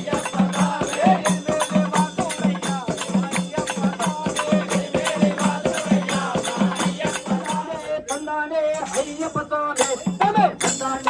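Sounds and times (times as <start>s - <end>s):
devotional group singing: 0.0s - 11.0s
jingling cymbals: 0.0s - 11.0s.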